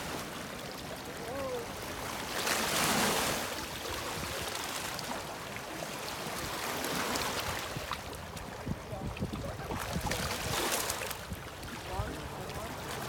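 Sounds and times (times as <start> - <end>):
river water washing: 0.0 - 13.0
wind: 0.0 - 13.0.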